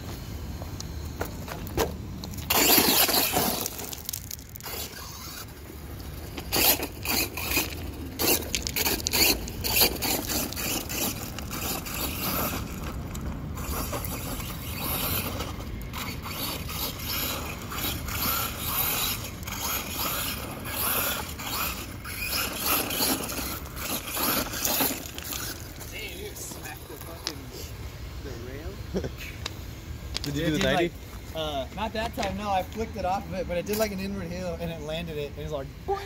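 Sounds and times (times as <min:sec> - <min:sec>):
tyres crunching through gravel: 0:00.0 - 0:35.7.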